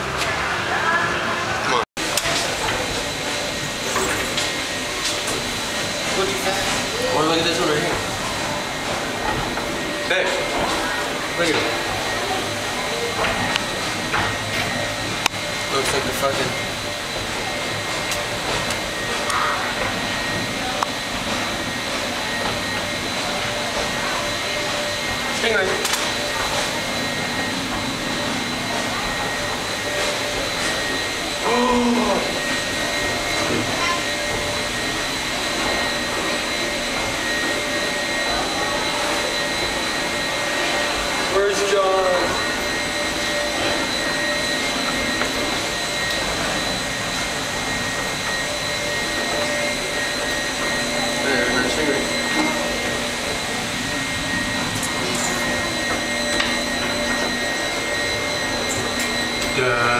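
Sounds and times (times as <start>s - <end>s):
mechanical hum and hiss: 0.0s - 59.9s.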